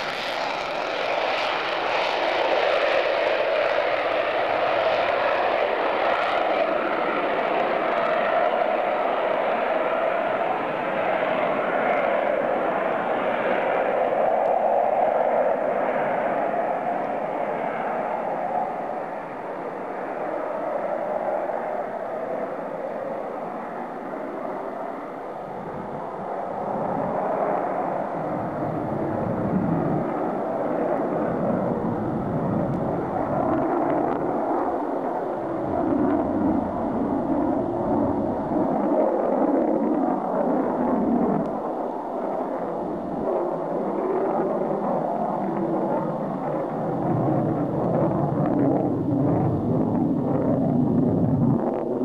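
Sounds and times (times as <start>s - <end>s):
jet engine rushing noise: 0.0s - 52.0s.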